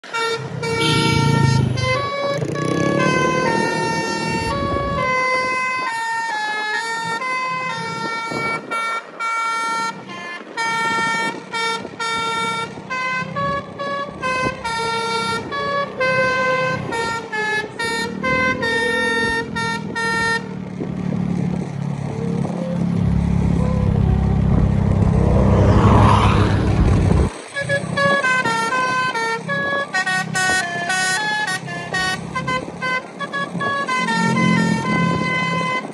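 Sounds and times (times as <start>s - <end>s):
melodica playing horn-like melody: 0.0s - 20.5s, 27.5s - 35.9s
low vehicle engine rumble: 0.0s - 35.9s
road noise: 0.0s - 35.9s.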